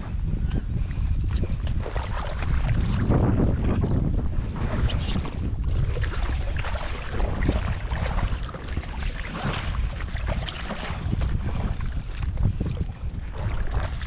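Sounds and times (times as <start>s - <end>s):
wind buffeting microphone: 0.0s - 14.0s
water splashing and dripping: 1.3s - 14.0s.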